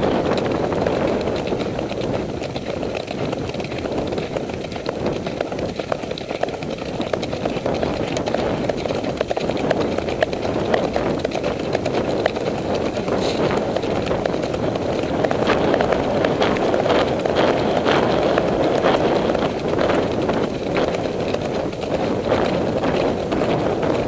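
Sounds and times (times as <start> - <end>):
horse hoofbeats on dirt: 0.0 - 24.0
wind on microphone: 0.0 - 24.0.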